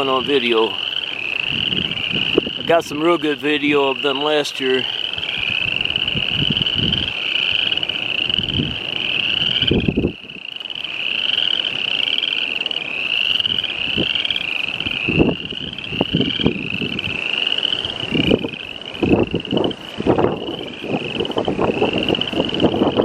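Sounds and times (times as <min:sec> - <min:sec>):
spring peepers calling: 0:00.0 - 0:23.0.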